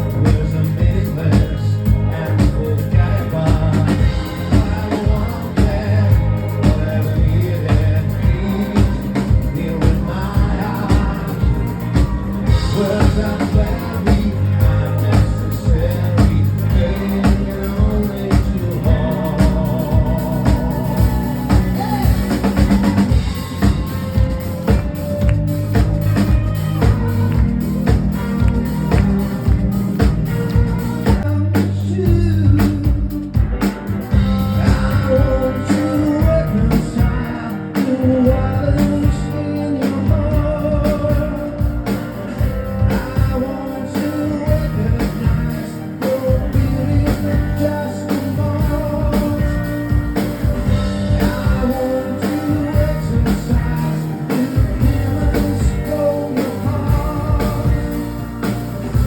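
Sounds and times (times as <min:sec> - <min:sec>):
bass guitar: 0:00.0 - 0:59.0
drum kit beat: 0:00.0 - 0:59.0
live rock band playing: 0:00.0 - 0:59.0.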